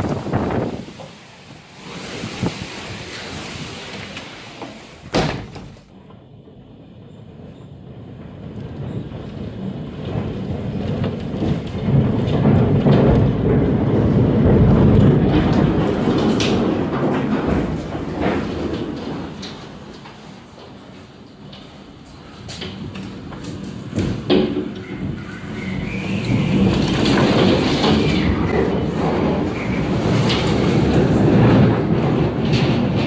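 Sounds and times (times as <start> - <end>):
tornado winds rumbling rush: 0.0 - 33.0.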